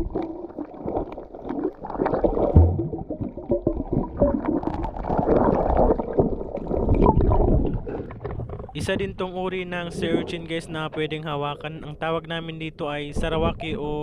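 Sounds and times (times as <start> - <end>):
underwater rumbling and gurgling: 0.0 - 14.0.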